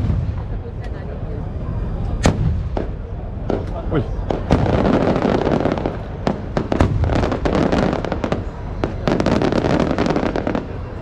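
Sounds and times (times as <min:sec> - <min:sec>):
fireworks bursting with sharp cracks: 0:00.0 - 0:01.0, 0:02.2 - 0:11.0
rumbling crackle: 0:00.0 - 0:11.0.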